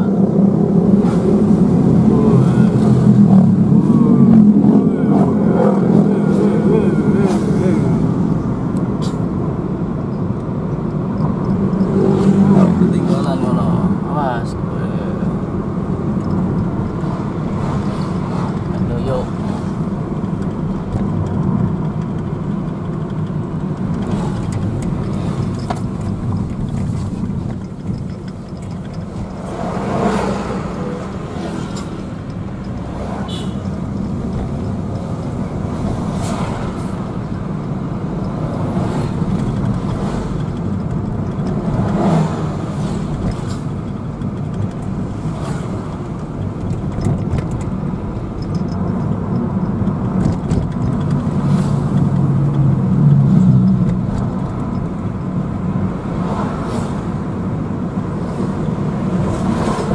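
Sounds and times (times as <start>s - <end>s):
car engine and road rumble: 0.0s - 59.9s
passing vehicles: 0.0s - 59.9s.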